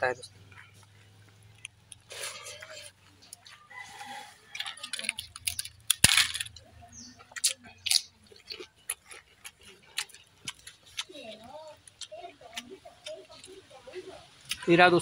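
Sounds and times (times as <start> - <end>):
chewing: 0.4 - 14.7.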